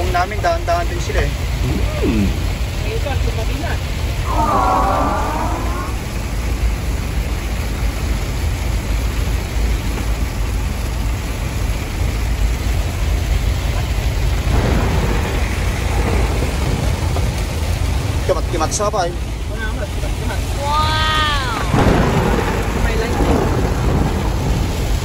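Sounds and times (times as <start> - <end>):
heavy rain on truck cab: 0.0 - 25.0
road noise: 0.0 - 25.0
truck engine rumble: 0.0 - 25.0.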